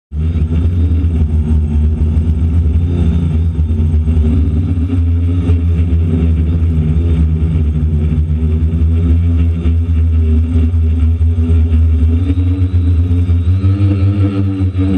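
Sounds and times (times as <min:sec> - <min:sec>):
quadcopter motors and propellers: 0:00.1 - 0:14.9.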